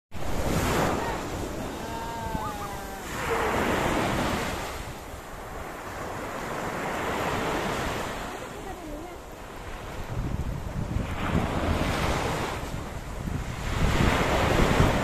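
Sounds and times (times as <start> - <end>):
small waves breaking on beach: 0.2 - 15.0.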